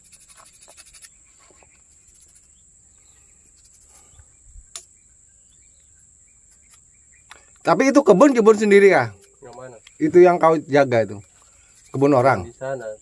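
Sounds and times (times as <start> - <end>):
insects shrilling: 0.0 - 13.0.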